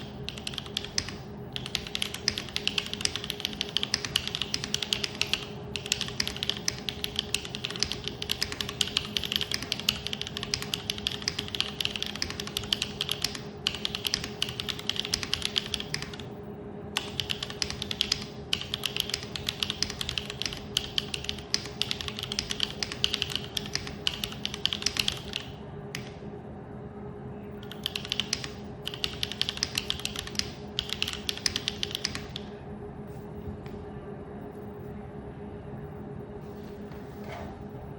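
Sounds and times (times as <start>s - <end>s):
mechanical keyboard typing: 0.0s - 16.3s, 17.0s - 26.2s, 27.6s - 32.5s
steady low hum: 0.0s - 37.9s.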